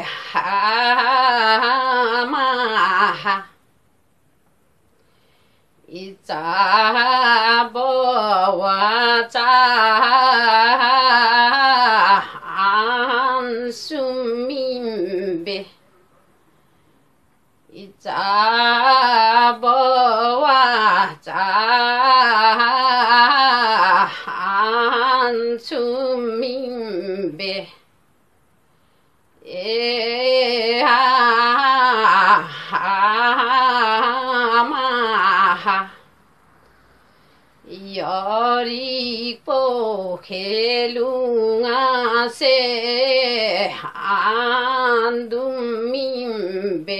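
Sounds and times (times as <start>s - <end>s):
woman singing unaccompanied: 0.0s - 3.7s, 5.8s - 15.9s, 17.6s - 27.9s, 29.4s - 36.2s, 37.6s - 46.9s.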